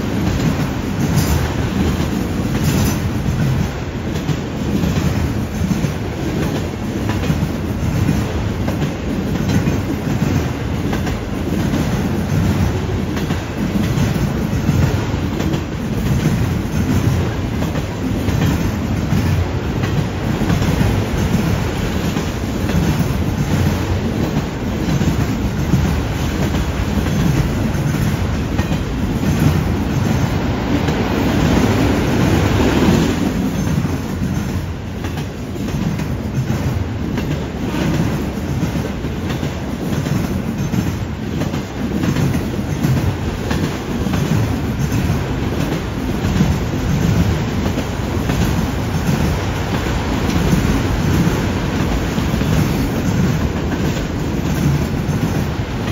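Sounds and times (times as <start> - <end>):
freight train wheels rumbling: 0.0 - 55.9
wheels clickety-clack: 0.0 - 55.9.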